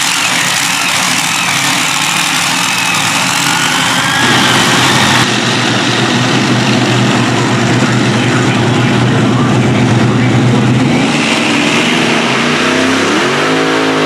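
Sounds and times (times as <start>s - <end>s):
tractor engines running loud: 0.0s - 14.0s.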